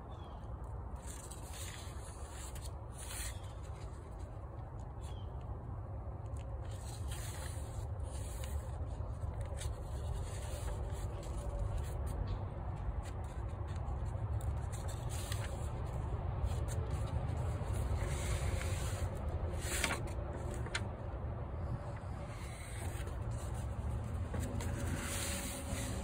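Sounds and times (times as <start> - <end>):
book pages turning and rustling: 1.0 - 5.1, 6.3 - 21.1, 21.7 - 26.0.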